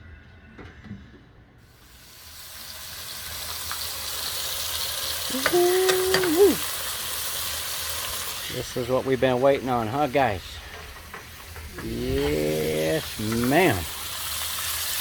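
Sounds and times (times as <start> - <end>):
food sizzling in hot oil: 1.8 - 15.0.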